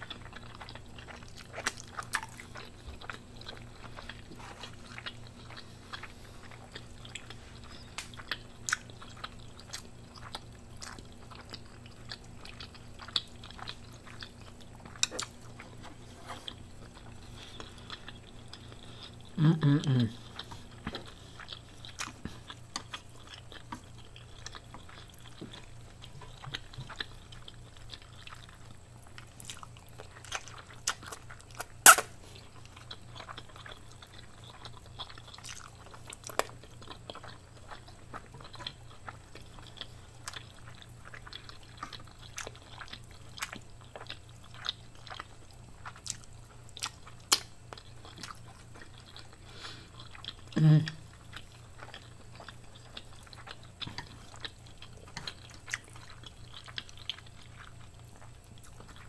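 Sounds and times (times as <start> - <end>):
low steady hum: 0.0 - 59.0
person chewing: 0.0 - 59.0.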